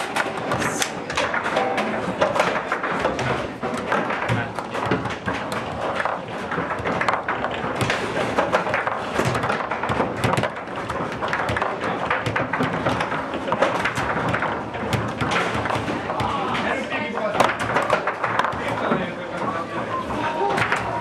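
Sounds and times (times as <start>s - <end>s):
foosball knocks and thuds: 0.0s - 21.0s.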